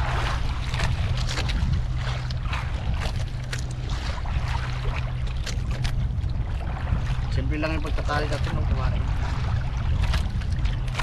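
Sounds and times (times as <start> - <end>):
steady low hum: 0.0 - 11.0
water lapping against boat hull: 0.0 - 11.0.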